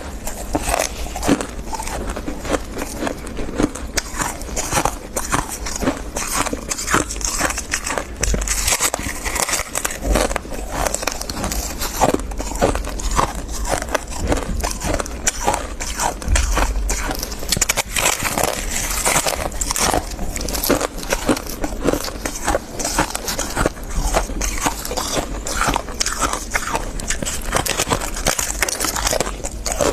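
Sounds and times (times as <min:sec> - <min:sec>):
crunching and chewing frost: 0:00.0 - 0:29.9.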